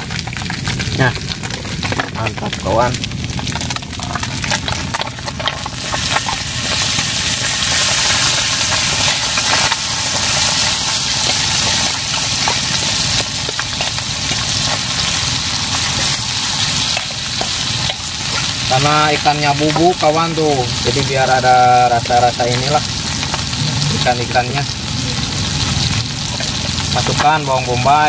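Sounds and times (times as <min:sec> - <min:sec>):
oil sizzling in a wok: 0:00.0 - 0:28.0.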